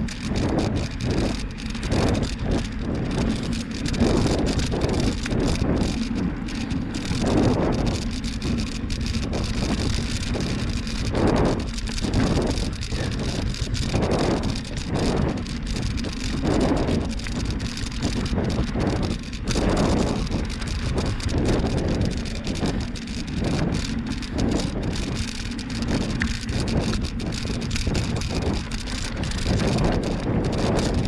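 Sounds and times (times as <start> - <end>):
bicycle tyre and trail noise: 0.0 - 31.0
wind rumbling over microphone: 0.0 - 31.0.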